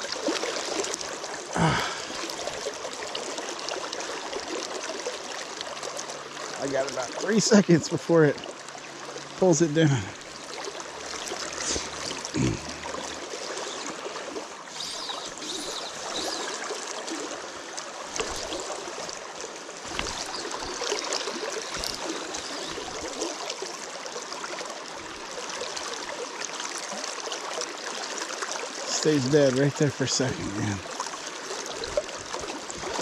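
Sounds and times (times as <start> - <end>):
stream flowing over rocks: 0.0 - 33.0.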